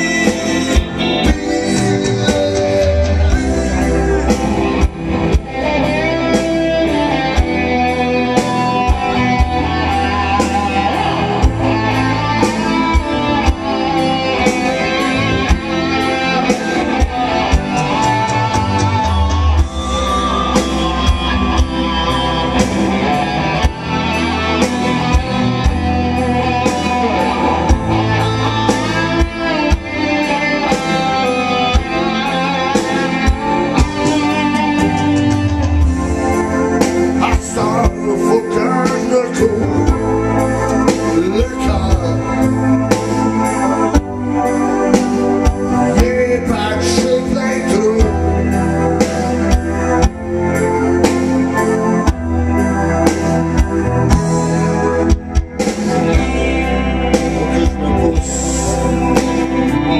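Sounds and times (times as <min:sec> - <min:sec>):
steady drum beat: 0:00.0 - 0:47.4, 0:52.1 - 0:59.9
electric guitar lead: 0:00.0 - 0:59.9
low bass line: 0:00.0 - 0:59.9.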